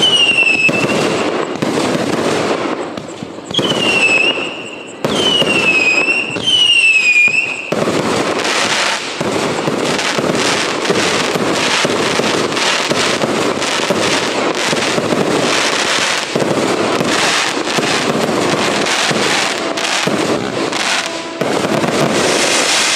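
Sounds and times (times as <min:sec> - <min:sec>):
rapid firework bangs and crackle: 0:00.0 - 0:22.9
whistling firework shots: 0:00.0 - 0:22.9.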